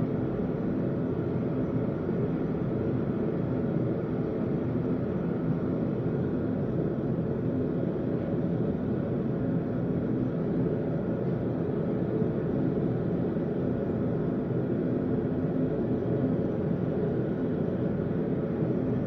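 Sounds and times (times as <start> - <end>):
forge roaring with faint hum: 0.0 - 19.0.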